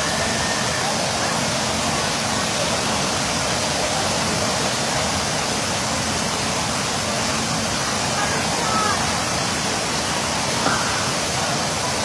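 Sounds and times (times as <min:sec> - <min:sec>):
pool water churning: 0:00.0 - 0:12.0
water pouring from showers: 0:00.0 - 0:12.0.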